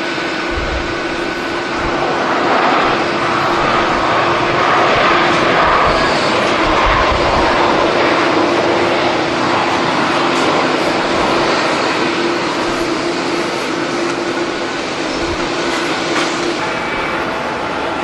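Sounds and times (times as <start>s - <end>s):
jet engines roaring: 0.0s - 18.0s
wind buffeting microphone: 0.0s - 18.0s.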